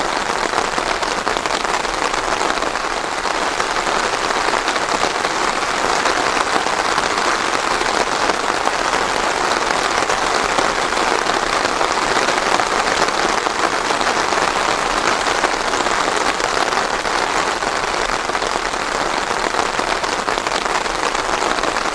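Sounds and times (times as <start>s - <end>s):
rain pattering: 0.0s - 21.9s.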